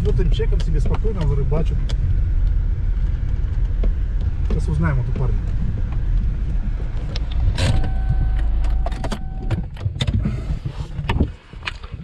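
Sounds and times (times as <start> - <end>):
sharp clicks and knocks: 0.0 - 10.2
car engine and tyres rumbling: 0.0 - 12.0.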